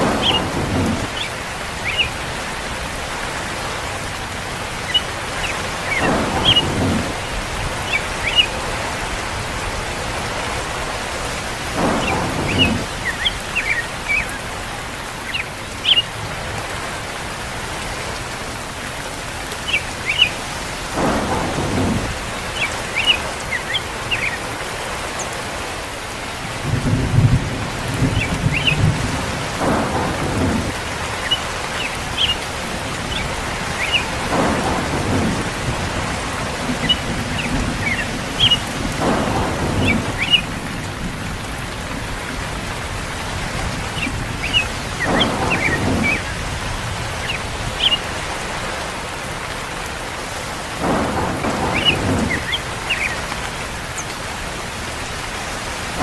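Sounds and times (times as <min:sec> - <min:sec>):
birds chirping: 0:00.0 - 0:55.2
heavy rain: 0:00.0 - 0:56.0
thunder rolling: 0:00.0 - 0:56.0.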